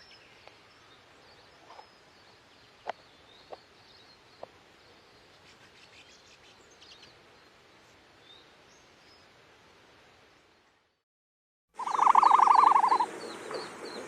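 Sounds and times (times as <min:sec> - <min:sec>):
faint outdoor hiss: 0:00.0 - 0:11.0, 0:11.8 - 0:14.0.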